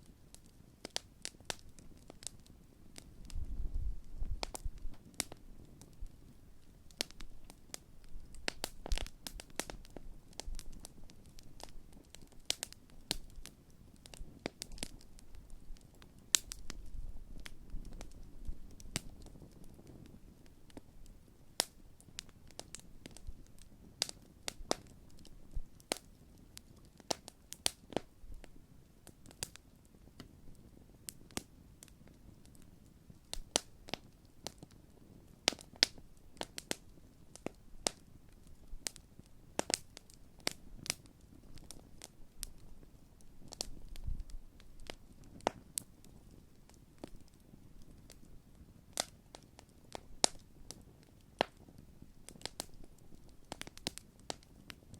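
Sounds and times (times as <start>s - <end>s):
low rush of fire: 0.2s - 54.9s
burning wood popping and snapping: 0.3s - 54.9s.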